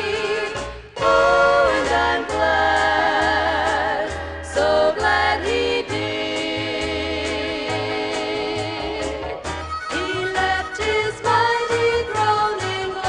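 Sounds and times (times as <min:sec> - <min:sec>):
gospel voices holding long notes: 0:00.0 - 0:13.0.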